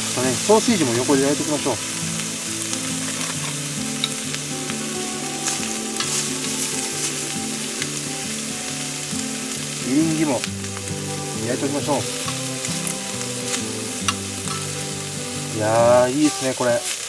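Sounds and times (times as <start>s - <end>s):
meat sizzling on griddle: 0.0s - 17.0s.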